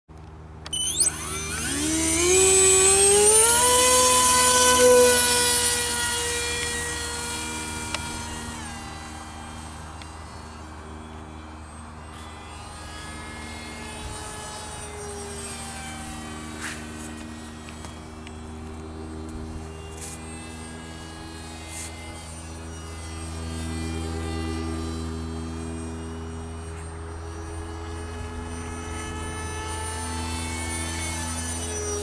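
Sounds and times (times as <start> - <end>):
model plane electric motor whining: 0.2 - 32.0.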